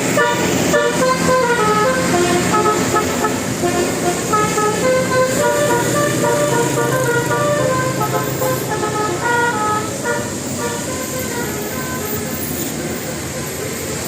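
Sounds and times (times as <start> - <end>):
vehicle engine running: 0.0 - 11.4
bus horn playing a tune: 0.0 - 14.0.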